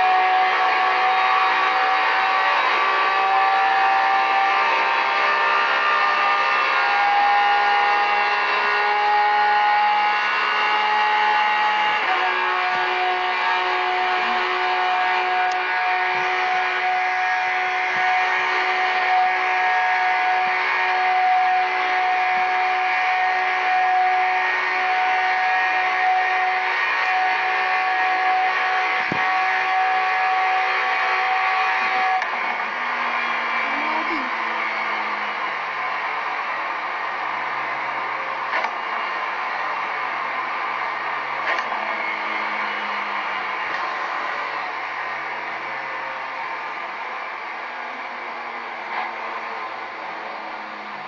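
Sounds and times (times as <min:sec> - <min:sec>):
car engine droning at high revs: 0:00.0 - 0:51.0.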